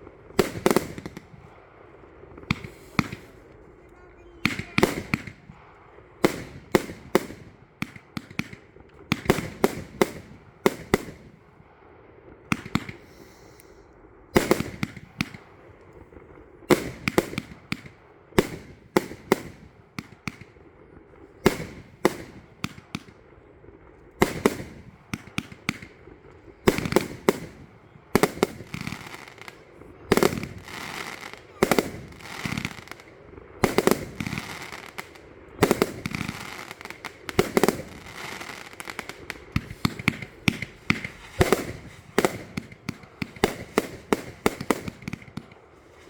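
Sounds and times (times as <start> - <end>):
fireworks bangs and cracks: 0.0 - 1.6, 2.3 - 11.6, 12.4 - 13.5, 14.3 - 20.6, 21.3 - 23.3, 24.2 - 46.0.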